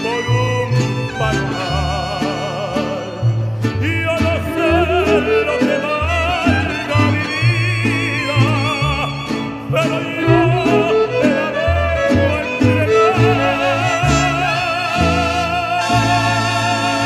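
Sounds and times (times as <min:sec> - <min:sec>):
strummed guitars: 0:00.0 - 0:17.0
violins with vibrato: 0:00.0 - 0:17.0.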